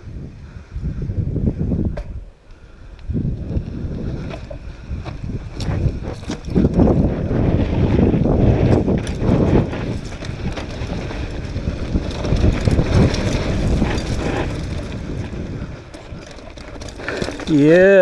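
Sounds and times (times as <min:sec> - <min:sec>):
wind buffeting microphone: 0:00.0 - 0:18.0
bike tyres rattling on dirt: 0:00.4 - 0:18.0.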